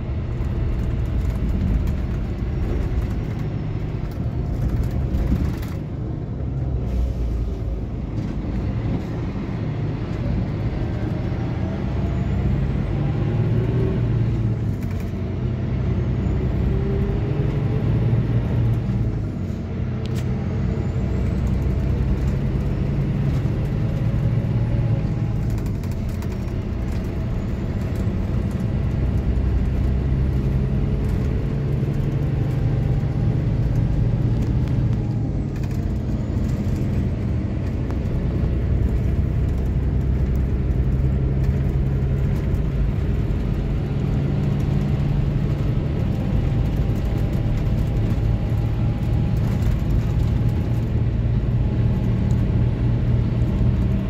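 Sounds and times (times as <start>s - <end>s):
coach diesel engine drone: 0.0s - 54.0s.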